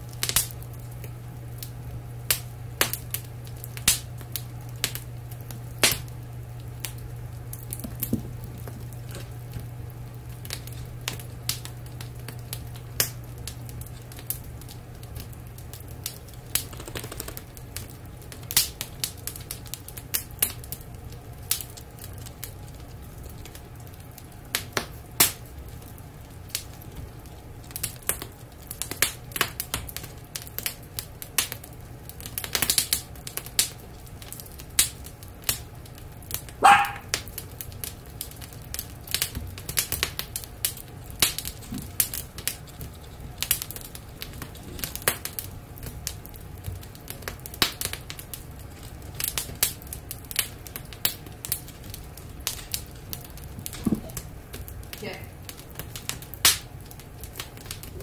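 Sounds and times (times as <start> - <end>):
steady low hum: 0.0 - 58.0
wood fire crackling and popping: 0.0 - 58.0.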